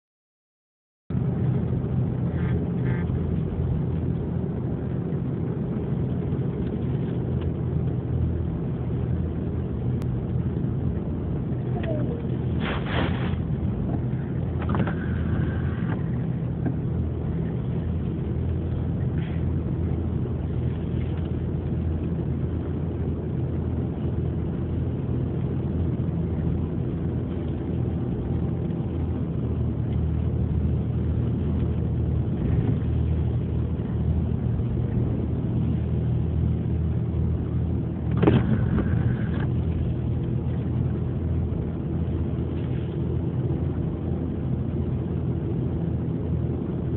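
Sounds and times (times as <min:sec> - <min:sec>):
ferry engine droning: 0:01.1 - 0:46.9
wind noise: 0:01.1 - 0:46.9.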